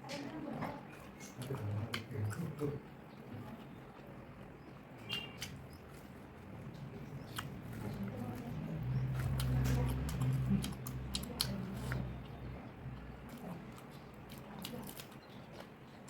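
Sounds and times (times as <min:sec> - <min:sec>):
chewing and biting food: 0:00.2 - 0:16.0.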